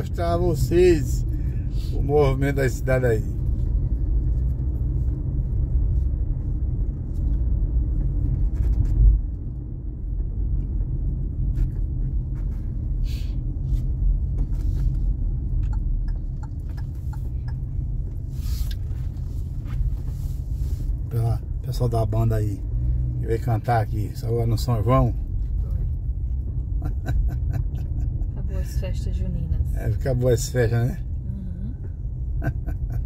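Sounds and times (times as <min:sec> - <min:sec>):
car rumble on the move: 0:00.0 - 0:33.0.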